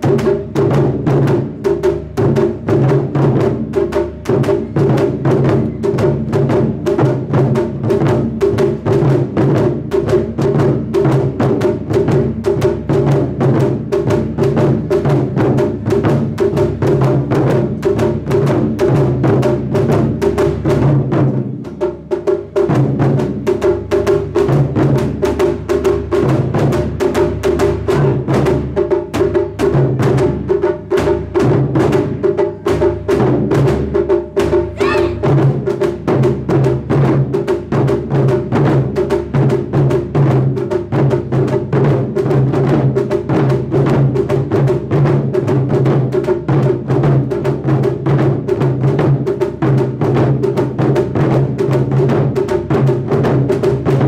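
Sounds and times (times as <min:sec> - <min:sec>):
heavy barrel drums beating: 0:00.0 - 0:54.0.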